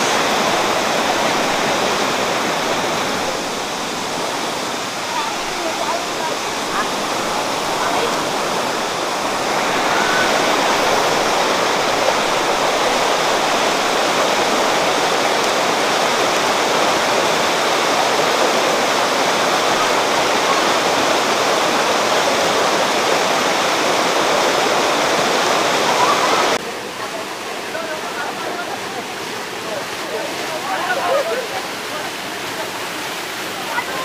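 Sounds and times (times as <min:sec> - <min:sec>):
water rushing over rocks: 0:00.0 - 0:34.0.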